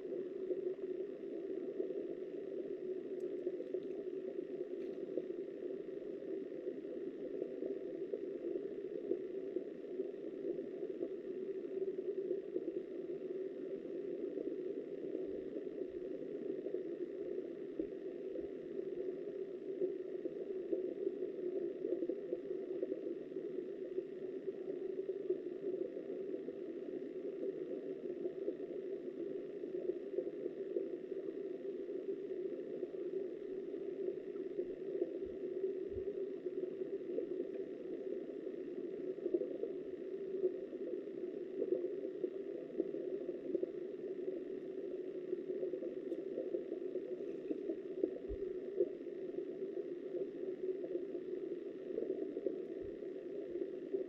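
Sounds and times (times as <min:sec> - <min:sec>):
faint ticks: 0:00.0 - 0:54.0
muffled underwater river rushing: 0:00.0 - 0:54.0.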